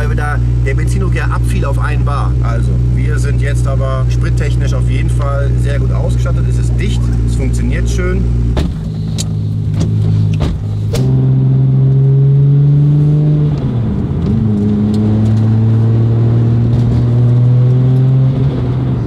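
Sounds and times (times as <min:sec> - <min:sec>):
car engine under throttle: 0:00.0 - 0:19.0
gear change: 0:00.0 - 0:19.0.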